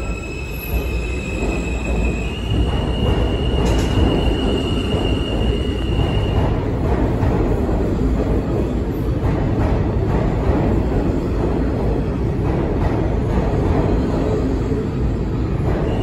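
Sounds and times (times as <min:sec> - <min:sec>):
subway train wheels rumbling on rail: 0:00.0 - 0:16.0.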